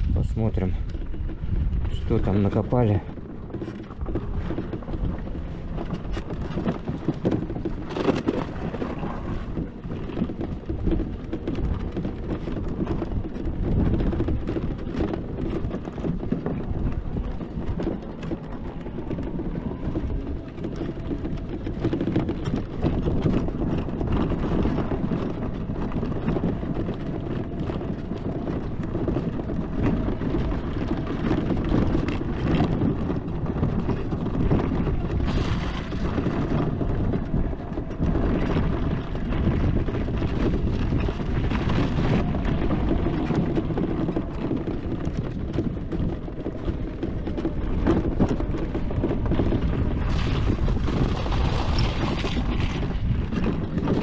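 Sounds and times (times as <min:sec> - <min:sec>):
knocks and rattles: 0:00.0 - 0:54.0
tyres rumbling over rough ground: 0:00.0 - 0:54.0.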